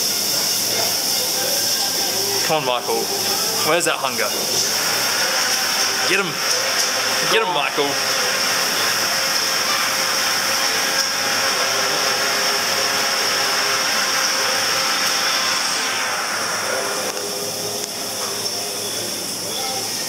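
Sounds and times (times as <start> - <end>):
machine hissing: 0.0 - 20.0.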